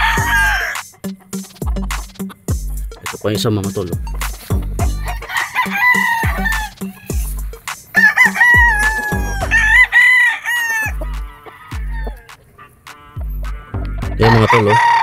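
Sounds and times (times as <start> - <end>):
deep electronic bass beat: 0.0 - 10.0, 10.8 - 12.2, 12.9 - 14.5
roosters crowing: 0.0 - 15.0.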